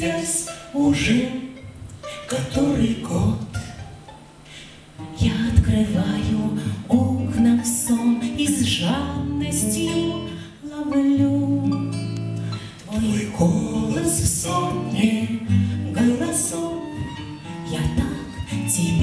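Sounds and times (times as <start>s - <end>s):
woman singing: 0.0s - 1.6s, 2.2s - 3.6s, 5.2s - 12.0s, 12.8s - 19.0s
acoustic guitar: 0.0s - 19.0s.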